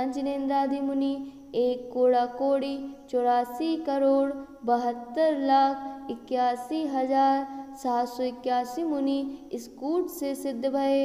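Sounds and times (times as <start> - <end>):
woman chanting: 0.0 - 11.0.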